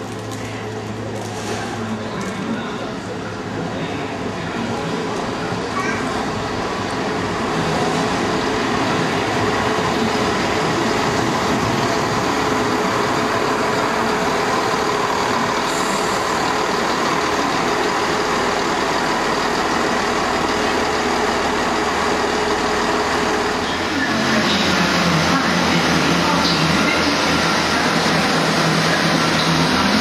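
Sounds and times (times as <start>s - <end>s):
train wheels on rails: 0.0s - 30.0s
diesel engine drone: 5.0s - 30.0s.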